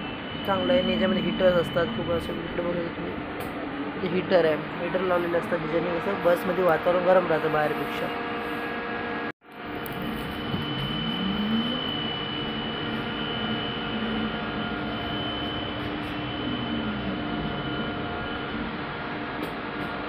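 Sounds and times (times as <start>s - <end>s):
electric bus drive whine: 0.0s - 20.0s
road and ventilation hum: 0.0s - 20.0s.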